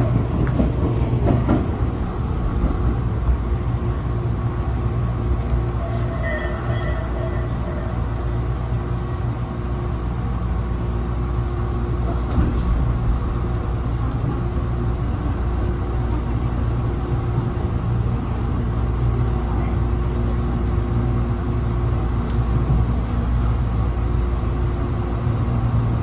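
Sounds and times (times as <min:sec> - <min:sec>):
train wheels and motors rumbling: 0:00.0 - 0:26.0.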